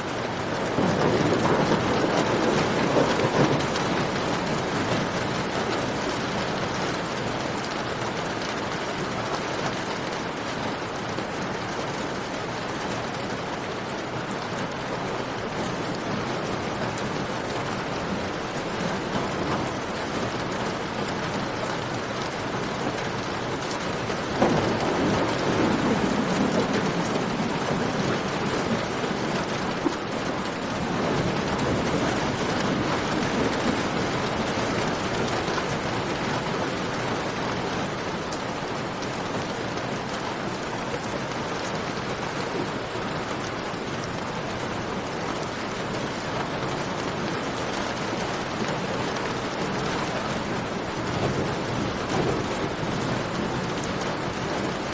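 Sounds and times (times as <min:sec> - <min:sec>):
steady rain: 0:00.0 - 0:54.9
thunder rumble: 0:00.1 - 0:54.9.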